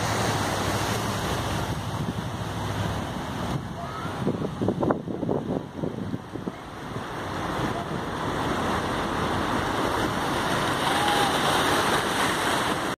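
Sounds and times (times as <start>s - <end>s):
sea waves washing over rocks: 0.0s - 13.0s.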